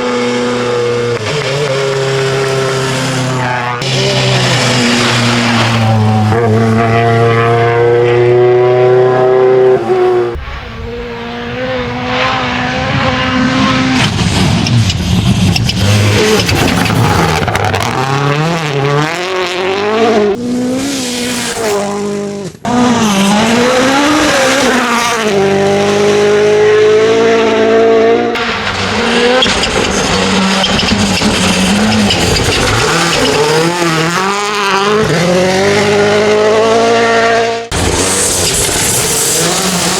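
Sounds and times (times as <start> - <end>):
rally car engine revving hard: 0.0 - 39.9.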